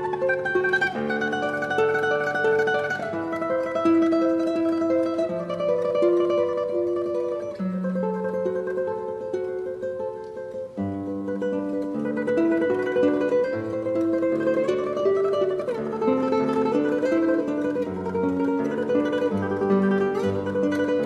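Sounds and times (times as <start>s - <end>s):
classical guitar playing: 0.0s - 21.0s.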